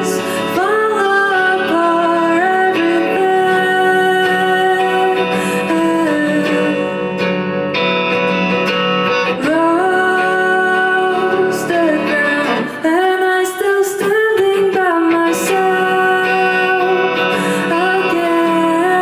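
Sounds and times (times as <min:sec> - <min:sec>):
guitar: 0:00.0 - 0:19.0
person singing long notes: 0:00.0 - 0:19.0.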